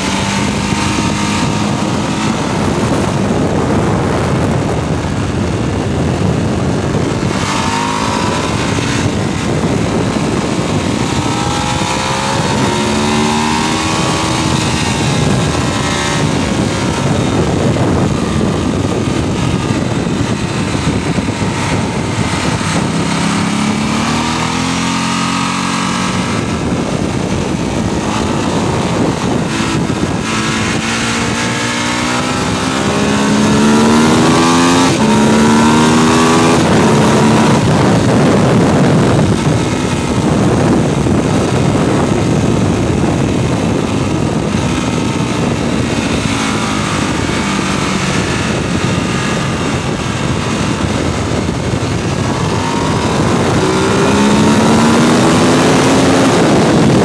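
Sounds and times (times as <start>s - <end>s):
motorcycle engine accelerating: 0.0s - 57.0s
wind rush: 0.0s - 57.0s.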